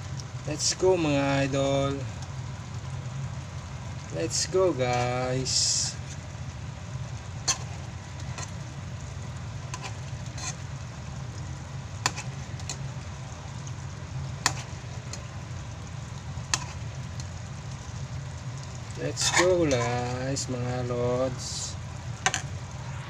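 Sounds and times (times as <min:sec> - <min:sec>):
food sizzling: 0:00.0 - 0:23.0
steady low hum: 0:00.0 - 0:23.0.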